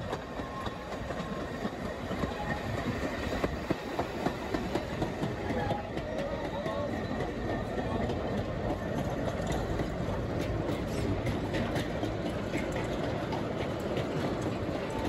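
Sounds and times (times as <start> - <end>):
wagon wheels rumbling on track: 0.0 - 15.0.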